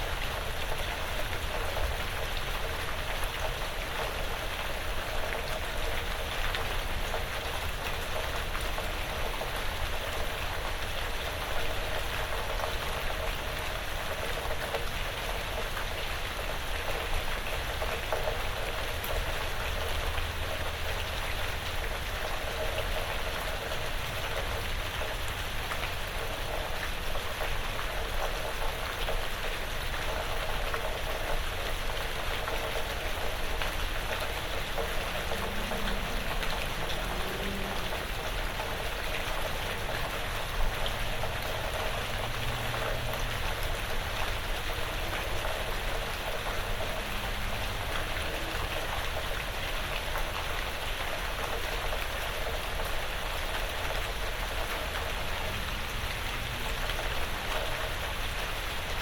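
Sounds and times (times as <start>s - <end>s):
light rain on a roof: 0.0s - 59.0s.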